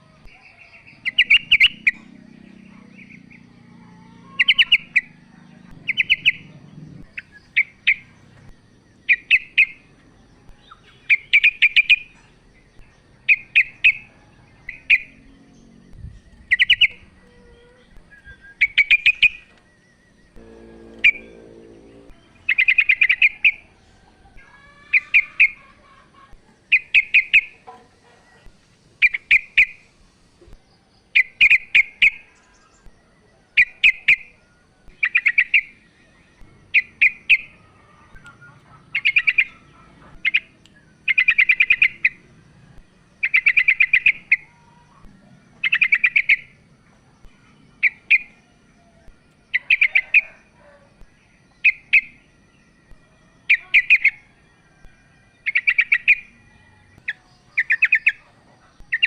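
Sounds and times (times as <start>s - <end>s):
bird chirping: 0.3s - 29.9s, 30.5s - 59.0s.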